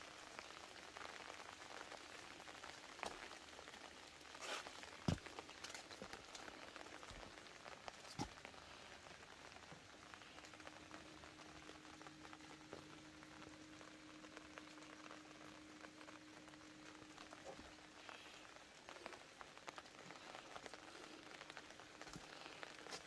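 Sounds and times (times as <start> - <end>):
faint steady hum: 0.0 - 23.0
light rain patter: 0.0 - 23.0.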